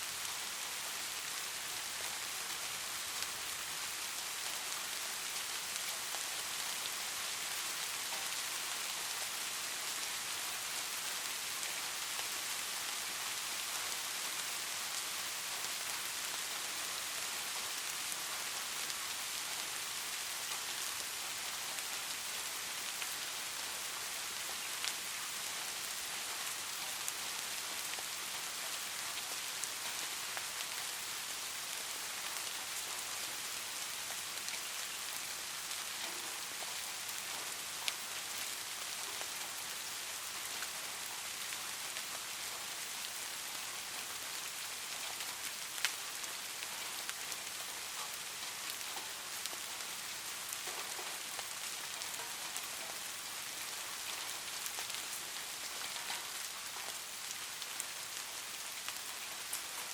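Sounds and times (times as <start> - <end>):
light rain hissing: 0.0 - 59.9.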